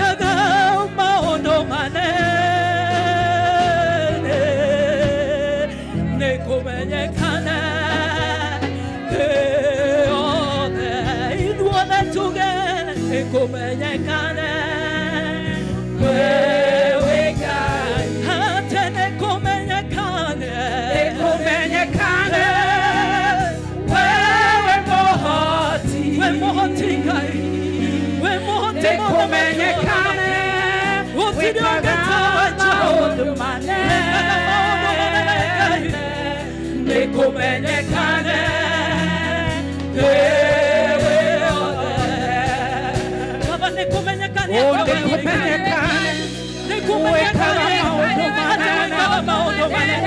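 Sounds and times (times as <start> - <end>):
band accompaniment: 0.0 - 50.0
women singing gospel song: 0.0 - 50.0.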